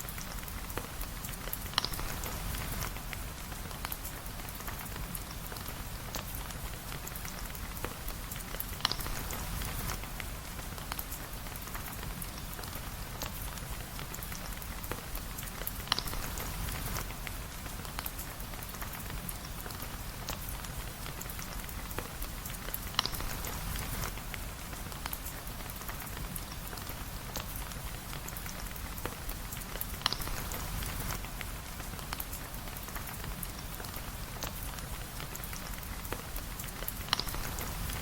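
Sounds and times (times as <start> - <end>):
rain patter: 0.0 - 38.0.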